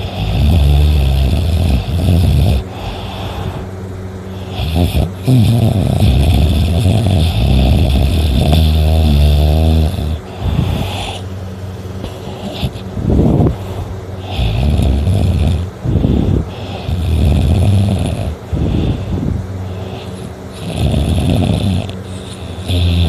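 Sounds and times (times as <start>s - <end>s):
person snoring: 0.0s - 3.7s, 4.3s - 11.3s, 12.0s - 23.0s
quiet breathing: 0.0s - 9.2s, 9.8s - 23.0s
steady high hiss: 0.0s - 23.0s.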